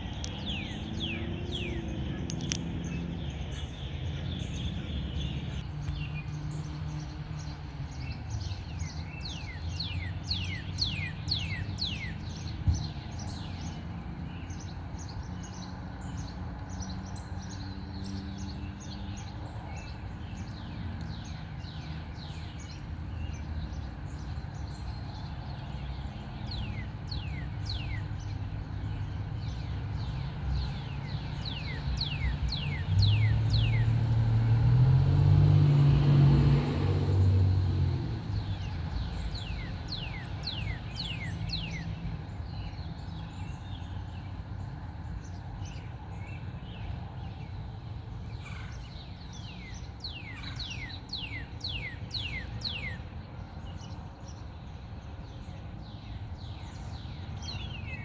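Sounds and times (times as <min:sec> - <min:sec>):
vehicle passing low rumble: 0:00.0 - 0:51.3.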